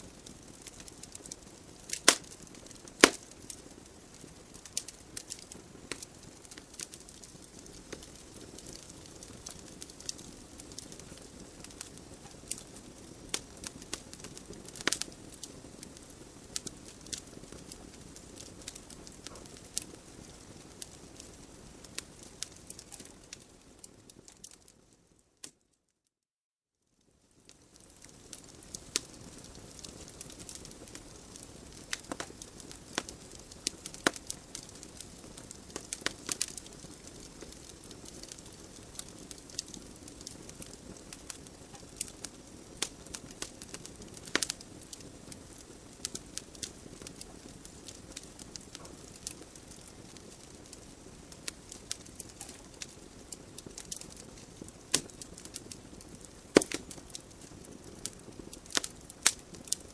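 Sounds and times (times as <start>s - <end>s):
soft hiss of flames: 0.0s - 25.6s, 26.9s - 59.9s
fire crackling and popping: 0.0s - 25.7s, 27.0s - 59.9s.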